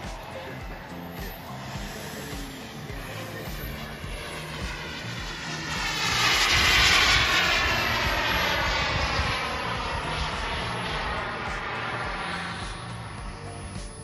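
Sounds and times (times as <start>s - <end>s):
high whine falling in pitch: 0.0s - 14.0s
model jet rushing past: 0.0s - 14.0s.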